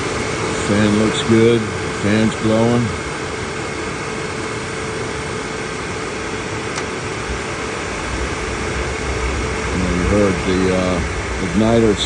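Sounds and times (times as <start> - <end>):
furnace blower fan humming: 0.0 - 12.0.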